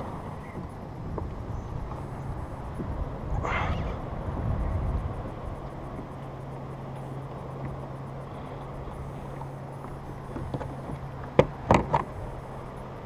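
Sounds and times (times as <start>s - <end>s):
water noise: 0.0s - 13.0s
wind noise: 0.0s - 13.0s.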